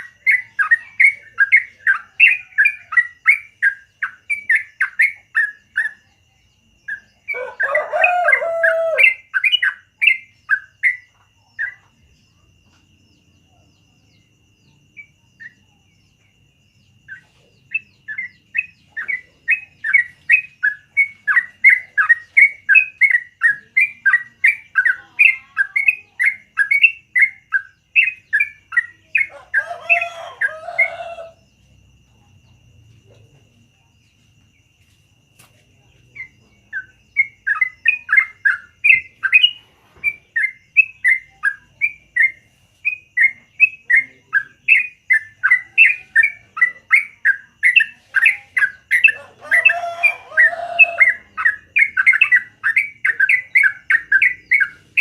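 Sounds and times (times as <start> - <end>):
bird singing fast chirps: 0.0 - 12.3, 13.1 - 31.4, 35.9 - 55.0.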